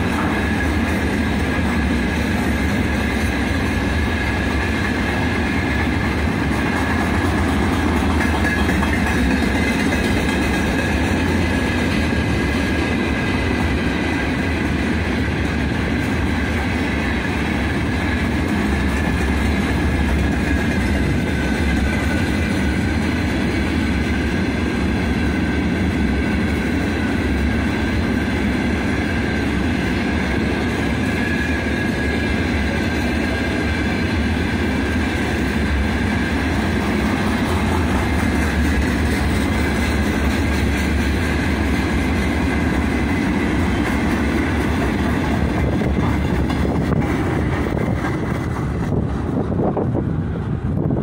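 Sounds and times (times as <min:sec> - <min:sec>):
steel wheels clattering on rails: 0:00.0 - 0:51.0.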